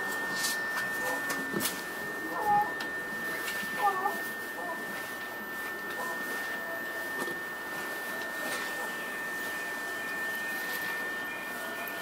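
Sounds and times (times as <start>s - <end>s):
high-pitched train whine: 0.0s - 12.0s.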